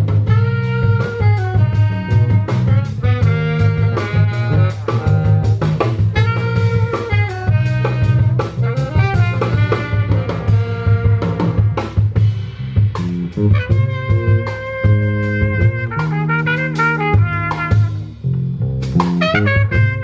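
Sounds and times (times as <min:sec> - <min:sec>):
horns playing melody: 0:00.0 - 0:12.4, 0:13.0 - 0:20.0
deep bass line: 0:00.0 - 0:20.0
drum kit beat: 0:00.0 - 0:20.0.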